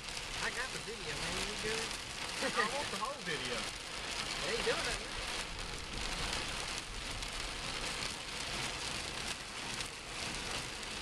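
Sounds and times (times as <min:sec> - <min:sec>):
car driving on wet road: 0:00.0 - 0:11.0
heavy rain on a car roof: 0:00.0 - 0:11.0.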